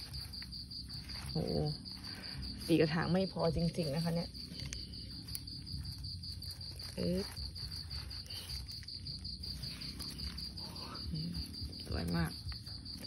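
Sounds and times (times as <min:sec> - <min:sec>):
insect chirping trill: 0:00.0 - 0:13.0.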